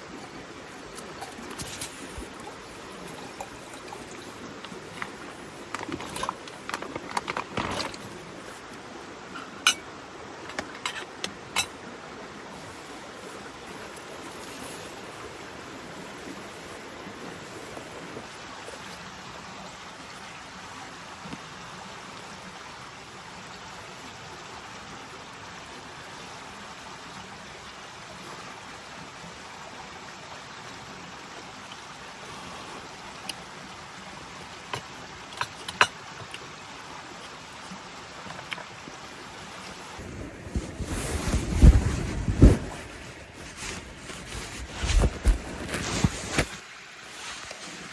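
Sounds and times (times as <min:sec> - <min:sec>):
steady rain hissing: 0:00.0 - 0:47.9.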